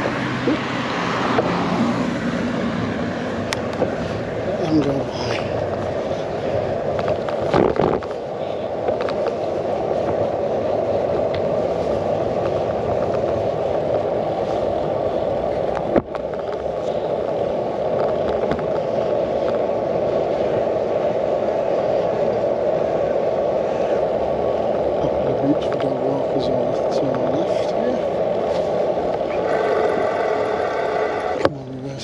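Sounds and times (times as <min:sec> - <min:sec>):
bicycle tyres rolling: 0:00.0 - 0:32.0
wind on microphone: 0:00.0 - 0:32.0.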